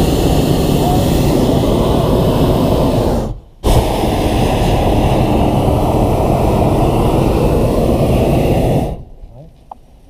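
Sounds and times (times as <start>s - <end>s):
propane burner roaring: 0.0s - 9.2s.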